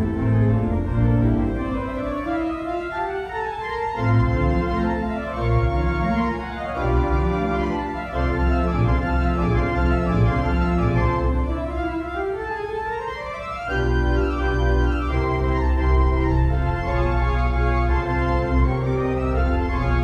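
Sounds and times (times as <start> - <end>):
pipe organ playing chords: 0.0 - 20.0.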